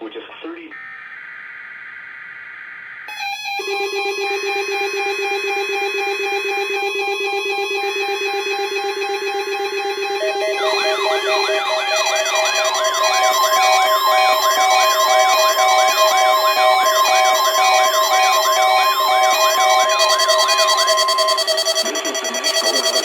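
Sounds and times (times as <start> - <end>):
pulsing beeping tones: 3.1 - 23.0
siren-like sweep: 3.1 - 23.0
weather radio alarm tone: 3.1 - 23.0.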